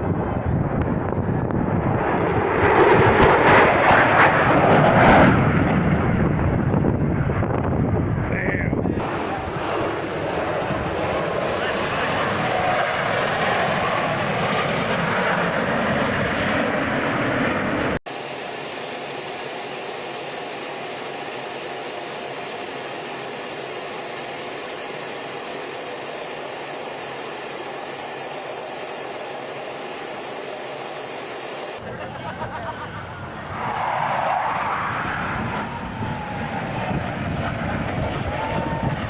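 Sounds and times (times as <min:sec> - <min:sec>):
airplane engine drone: 0:00.0 - 0:39.0.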